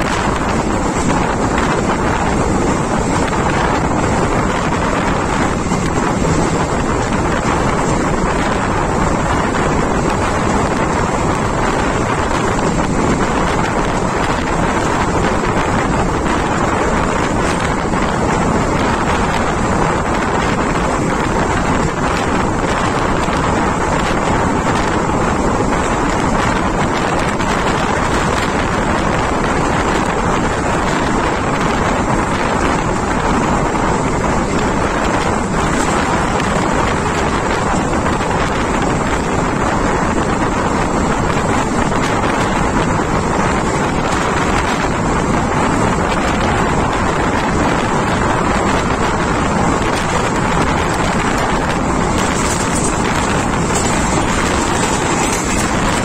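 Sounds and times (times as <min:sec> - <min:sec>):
train coach running on track: 0:00.0 - 0:56.0
wind buffeting microphone: 0:00.0 - 0:56.0.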